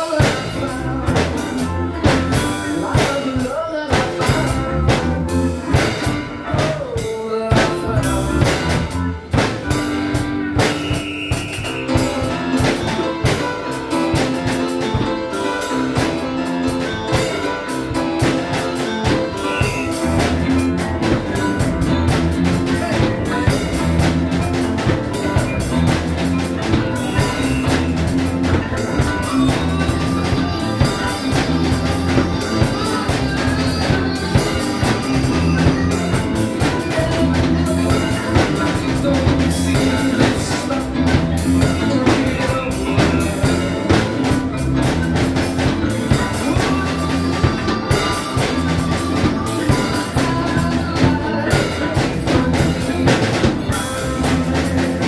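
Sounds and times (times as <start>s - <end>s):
drum kit groove: 0.0s - 55.0s
rock backing track: 0.0s - 55.0s.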